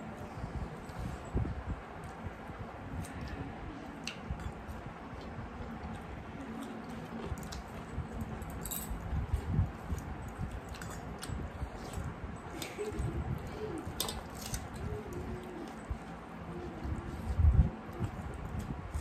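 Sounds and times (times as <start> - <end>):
chewing and wet mouth sounds: 2.0 - 19.0.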